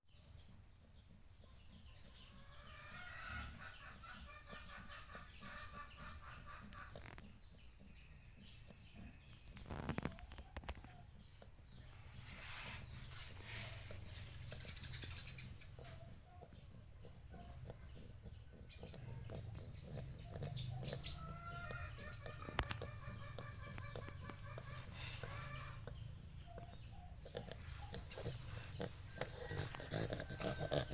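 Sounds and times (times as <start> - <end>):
faint farmyard animal calls: 0.1 - 30.9
chickens clucking: 1.2 - 30.9.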